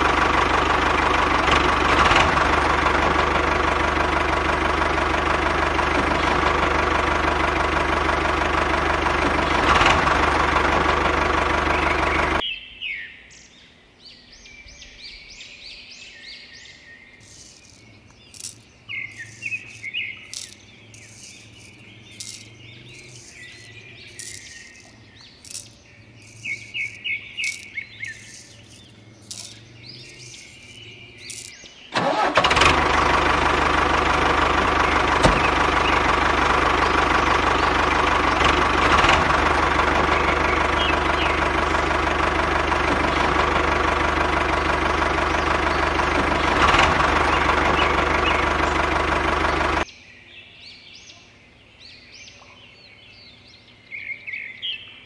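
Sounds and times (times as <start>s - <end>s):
motor running: 0.0s - 12.4s, 17.2s - 49.8s
birds chirping: 0.0s - 55.0s.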